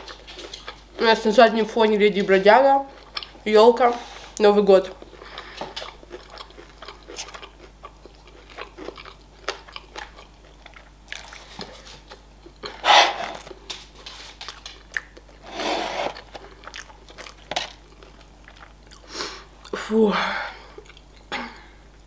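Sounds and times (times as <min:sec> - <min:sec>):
wet chewing: 0:00.0 - 0:01.3, 0:02.2 - 0:03.5, 0:04.3 - 0:15.4, 0:16.1 - 0:19.8, 0:20.8 - 0:21.3
crispy food crunching: 0:00.0 - 0:03.5, 0:04.4 - 0:15.4, 0:16.1 - 0:19.8.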